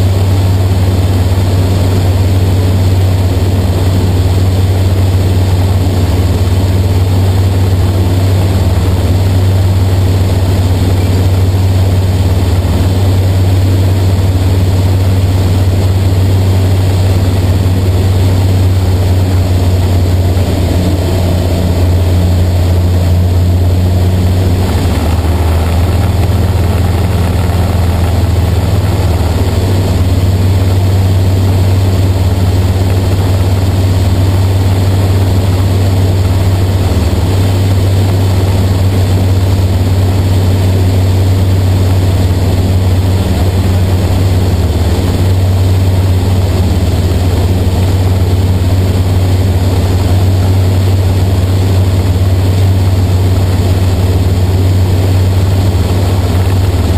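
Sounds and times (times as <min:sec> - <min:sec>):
aircraft engine drone in cockpit: 0:00.0 - 0:56.9.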